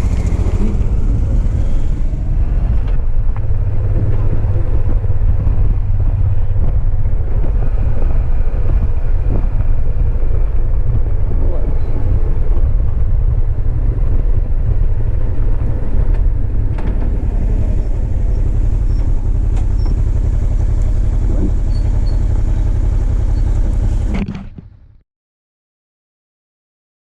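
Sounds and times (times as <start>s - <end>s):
wind rumble on microphone: 0.0s - 24.6s
motorcycle engine and road noise: 0.0s - 25.0s.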